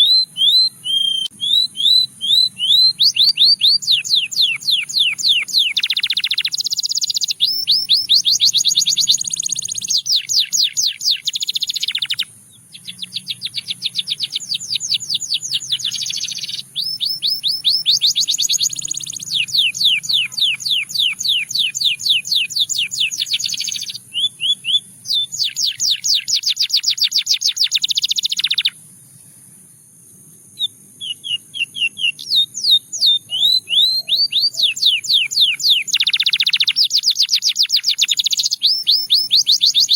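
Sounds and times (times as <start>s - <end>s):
canary trilling song: 0.0s - 28.9s, 30.6s - 39.9s.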